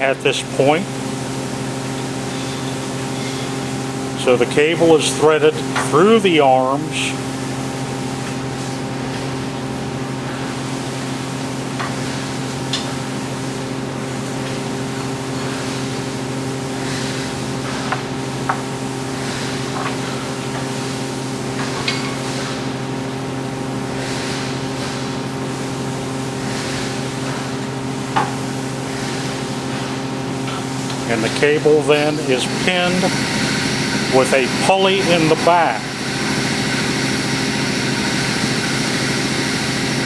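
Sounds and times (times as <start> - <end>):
ventilation unit humming: 0.0 - 40.0.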